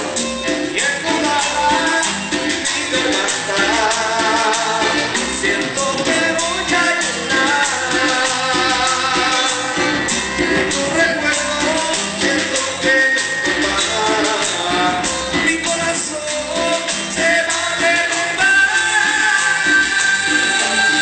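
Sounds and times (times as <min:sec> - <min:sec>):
live dance band playing: 0:00.0 - 0:21.0
person singing: 0:00.0 - 0:21.0.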